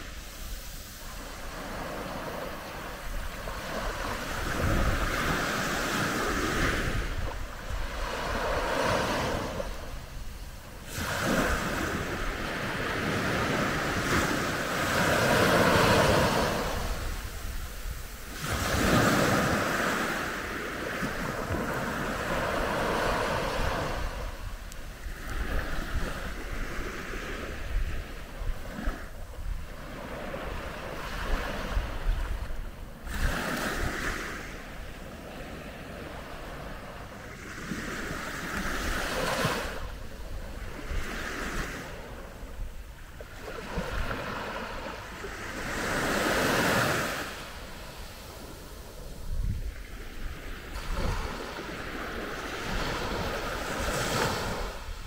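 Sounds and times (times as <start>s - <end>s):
waves breaking gently on shore: 0.0s - 55.0s.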